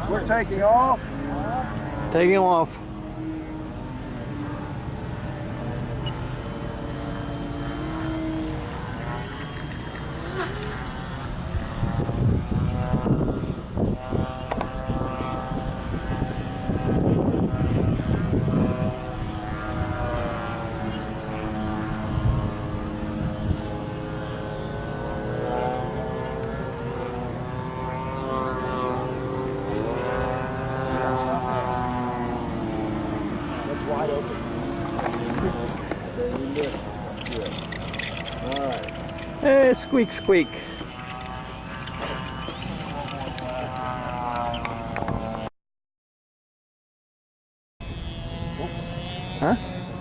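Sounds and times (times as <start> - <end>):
model airplane motor whining: 0.0 - 45.5, 47.8 - 50.0
wind on microphone: 0.0 - 45.5.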